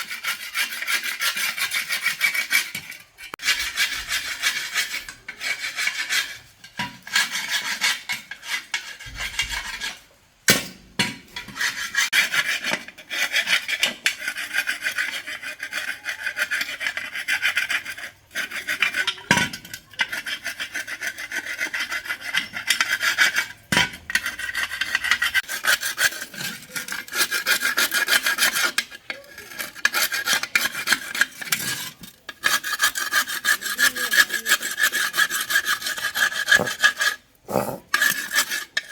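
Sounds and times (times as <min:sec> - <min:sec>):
hand tool rasping strokes: 0:00.0 - 0:10.0, 0:11.4 - 0:38.9.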